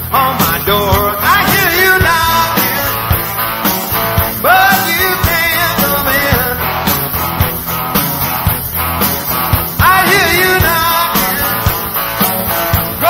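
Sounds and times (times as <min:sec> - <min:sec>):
bending lead guitar notes: 0:00.0 - 0:13.0
rock band playing live: 0:00.0 - 0:13.0
steady drum beat: 0:00.0 - 0:13.0.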